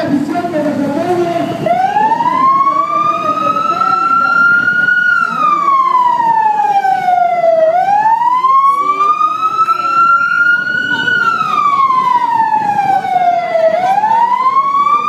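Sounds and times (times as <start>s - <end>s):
vehicle siren wailing: 0.0s - 15.0s.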